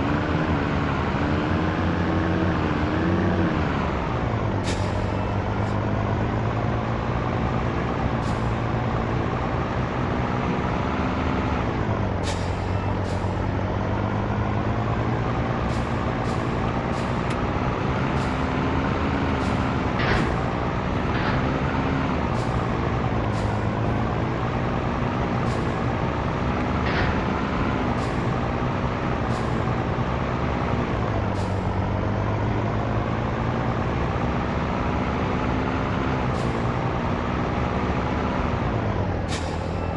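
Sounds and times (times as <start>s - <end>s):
diesel truck engine revving: 0.0s - 39.9s.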